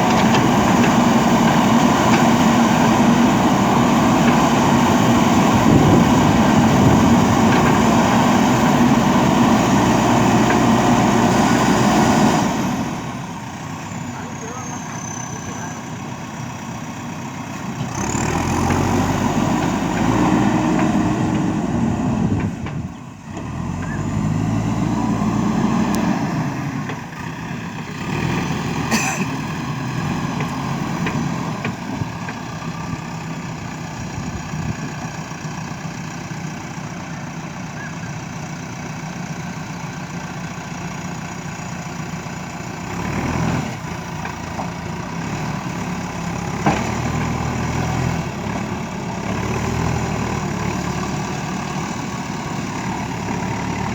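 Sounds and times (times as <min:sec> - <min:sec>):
backhoe diesel engine under load: 0:00.0 - 0:53.9.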